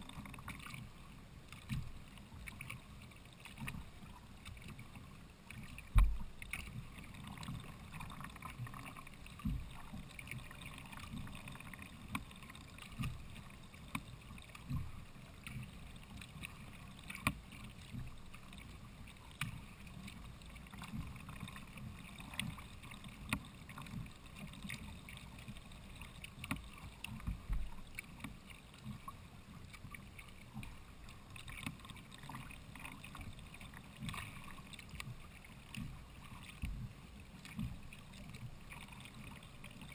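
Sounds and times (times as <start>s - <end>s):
paddle splashes and drips: 0.0s - 39.9s.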